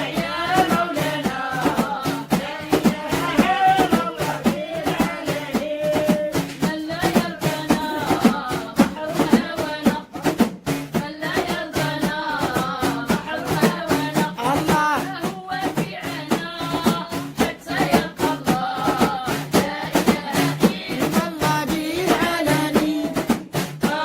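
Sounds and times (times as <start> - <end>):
chanting a sung melody: 0.0 - 24.0
drum strokes: 0.0 - 24.0.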